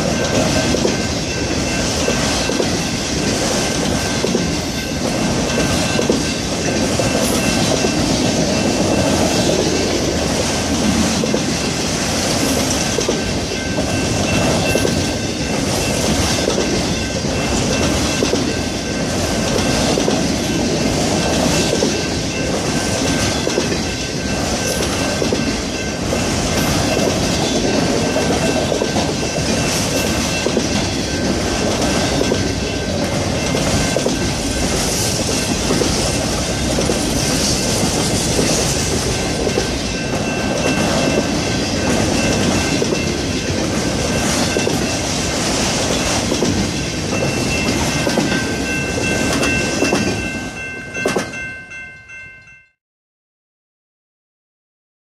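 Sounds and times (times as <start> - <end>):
freight train wheels rumbling: 0.0 - 52.5
clickety-clack of train trucks: 0.0 - 52.7.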